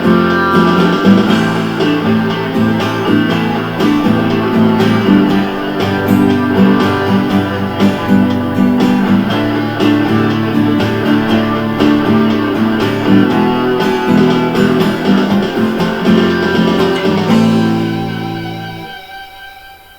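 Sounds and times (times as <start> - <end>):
strummed guitar chords: 0.0 - 19.9.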